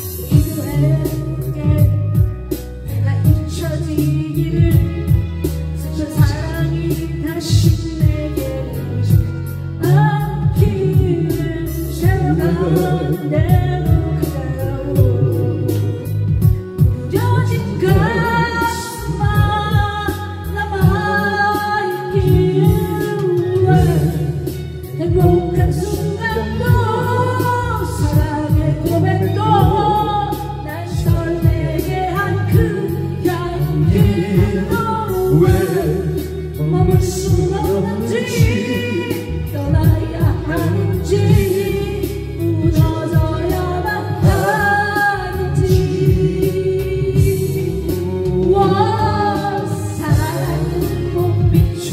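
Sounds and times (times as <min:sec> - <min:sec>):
karaoke backing track: 0:00.0 - 0:51.9
man singing into microphone: 0:00.0 - 0:51.9.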